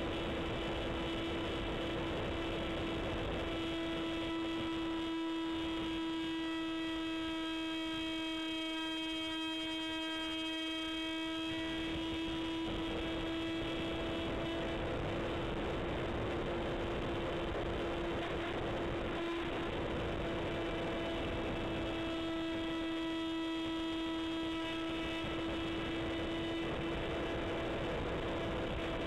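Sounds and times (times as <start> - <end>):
rc aircraft motor hum: 0.0 - 29.0
rushing motor and wind noise: 0.0 - 29.0.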